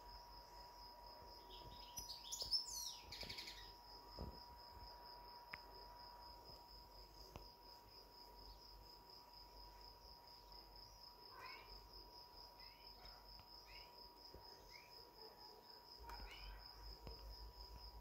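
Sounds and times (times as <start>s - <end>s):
faint high-pitched pulsing whine: 0.0s - 18.0s.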